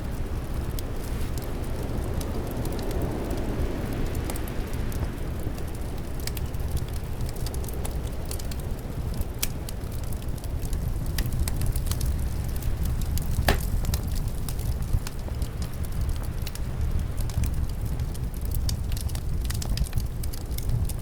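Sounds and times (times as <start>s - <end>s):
low wind rumble: 0.0s - 21.0s
wood fire crackling: 0.0s - 21.0s.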